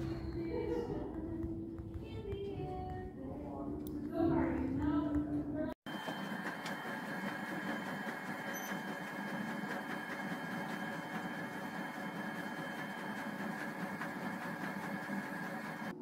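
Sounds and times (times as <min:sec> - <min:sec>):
machine hum and whir: 0:00.0 - 0:16.0.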